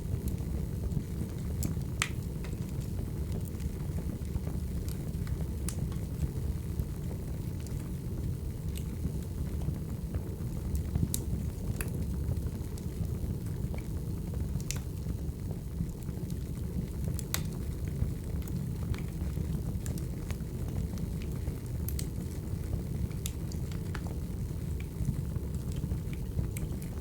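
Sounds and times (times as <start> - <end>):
burning logs crackling and popping: 0.0 - 27.0
low rumble of flames: 0.0 - 27.0.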